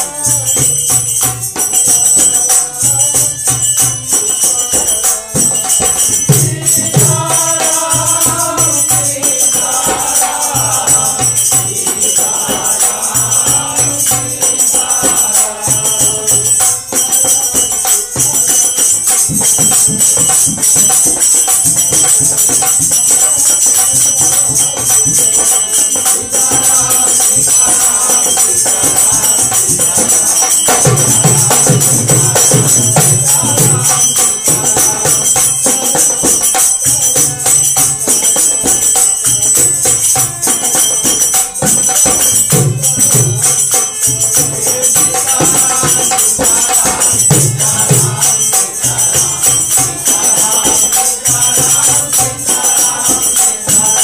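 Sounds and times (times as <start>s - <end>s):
fast jingling percussion: 0.0s - 54.0s
hand drum: 0.0s - 54.0s
men singing: 0.0s - 54.0s.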